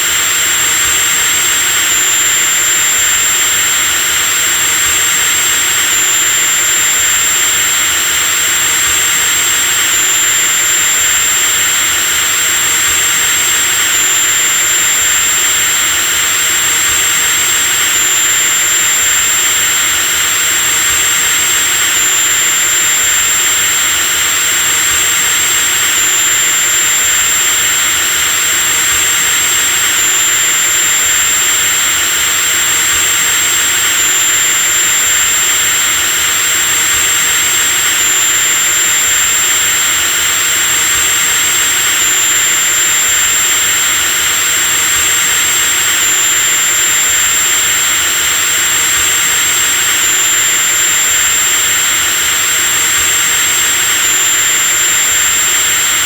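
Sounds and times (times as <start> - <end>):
electric drill running: 0.0 - 56.0.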